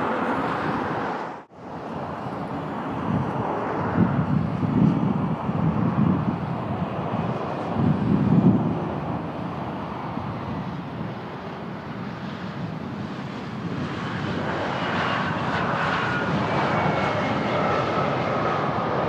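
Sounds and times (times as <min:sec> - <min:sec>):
airplane engines: 0:00.0 - 0:19.0
steady engine whine: 0:00.0 - 0:19.0
wind rumble on microphone: 0:00.0 - 0:19.0.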